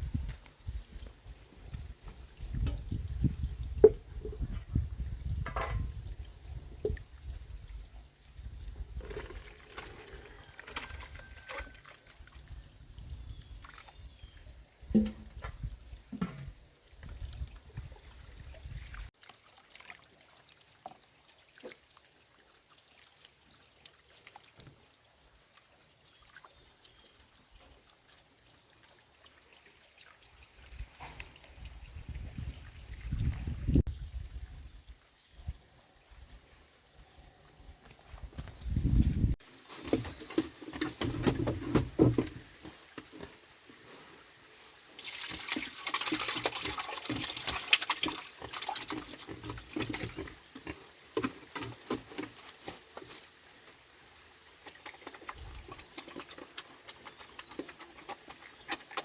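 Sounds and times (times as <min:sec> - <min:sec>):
water trickling and pouring: 0:00.0 - 0:59.0.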